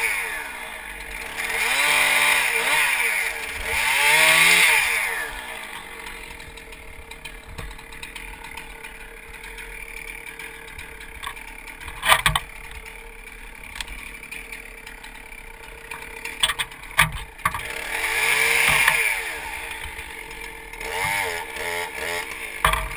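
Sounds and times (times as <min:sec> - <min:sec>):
chainsaw idling: 0:00.0 - 0:22.9.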